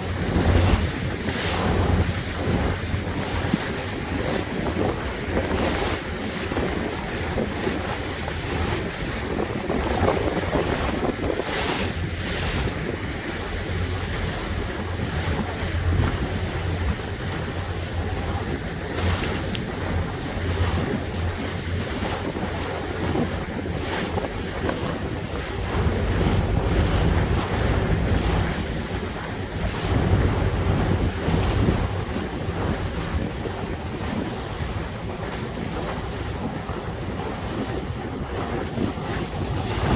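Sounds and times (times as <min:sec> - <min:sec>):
motorboat engine running: 0:00.0 - 0:39.9
water rushing along hull: 0:00.0 - 0:39.9
wind buffeting microphone: 0:00.0 - 0:39.9.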